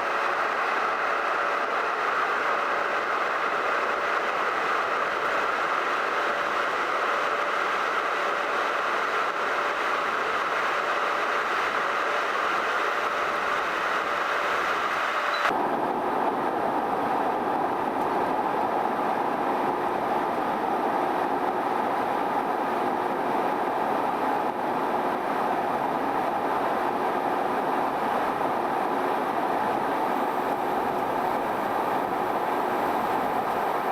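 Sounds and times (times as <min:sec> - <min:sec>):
jet engine during takeoff: 0:00.0 - 0:33.9.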